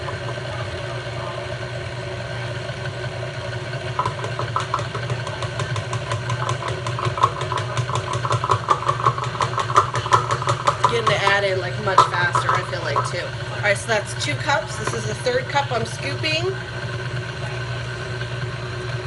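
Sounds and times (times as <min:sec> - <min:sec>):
stand mixer motor running: 0:00.0 - 0:19.0.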